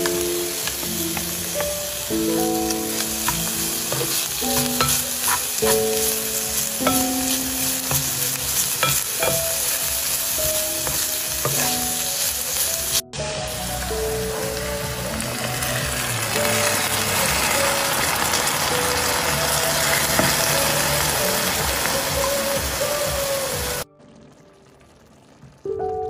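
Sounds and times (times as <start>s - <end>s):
vegetables sizzling in a pan: 0.0s - 23.8s.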